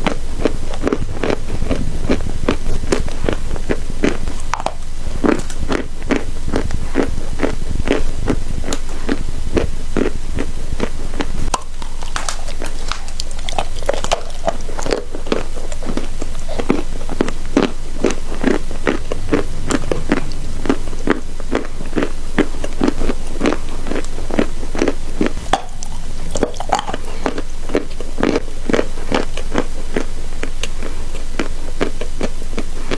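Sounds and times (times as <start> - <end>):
person chewing chalk: 0.0 - 32.9.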